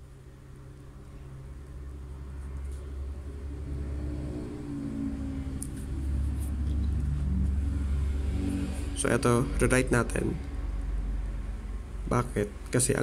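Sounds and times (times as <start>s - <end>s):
vehicle engine rumble: 0.4s - 13.0s.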